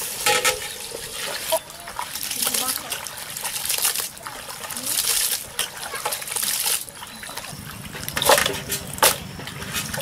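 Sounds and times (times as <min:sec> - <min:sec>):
hands squelching through wet meat: 0:01.5 - 0:10.0.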